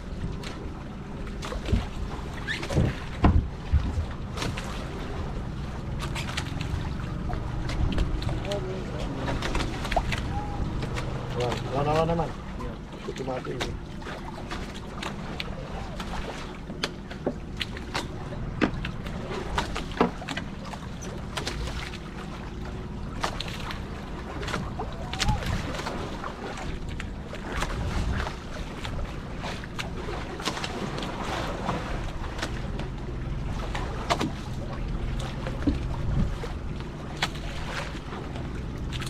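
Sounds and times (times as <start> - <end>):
boat engine rumbling: 0.0 - 39.0.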